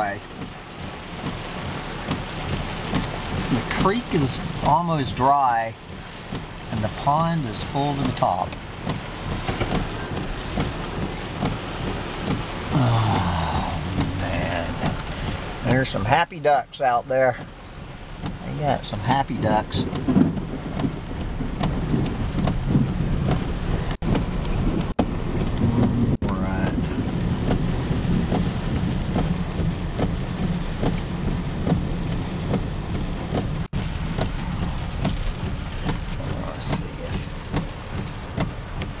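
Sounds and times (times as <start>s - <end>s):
heavy rain on car roof: 0.0s - 39.0s.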